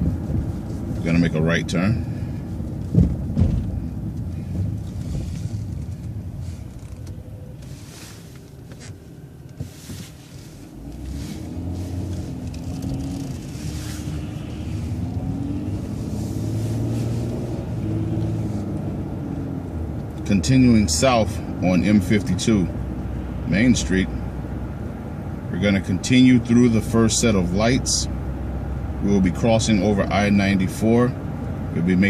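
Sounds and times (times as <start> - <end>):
bus engine accelerating: 0.0 - 29.5.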